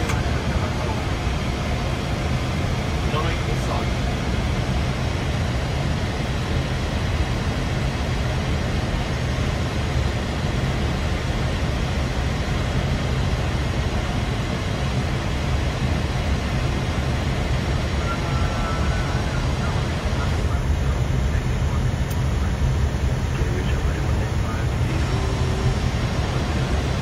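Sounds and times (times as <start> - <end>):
aircraft cockpit airflow and engine hum: 0.0 - 27.0.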